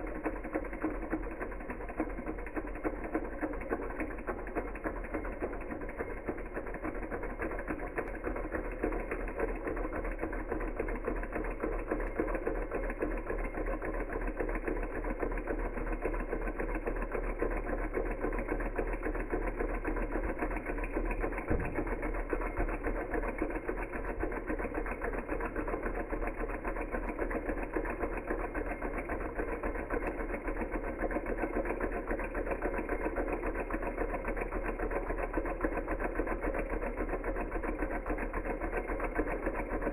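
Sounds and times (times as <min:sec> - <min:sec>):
stirling engine mechanical clatter: 0:02.8 - 0:39.9.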